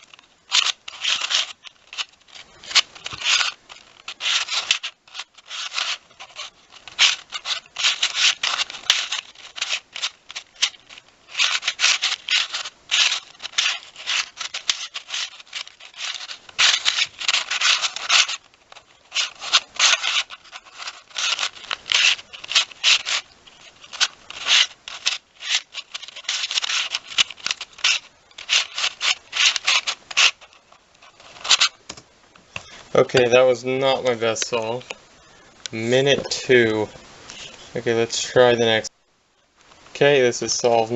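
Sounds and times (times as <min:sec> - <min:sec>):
puzzle clicking and scraping: 0:00.0 - 0:35.0.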